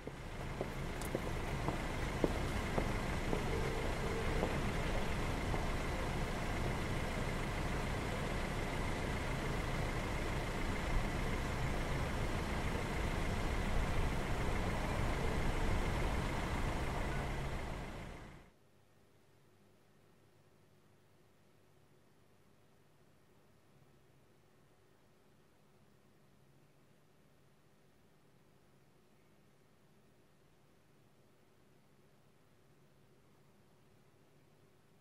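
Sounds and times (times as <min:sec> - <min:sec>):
faint high whine: 0:00.0 - 0:35.0
low rumble of traffic: 0:00.0 - 0:35.0.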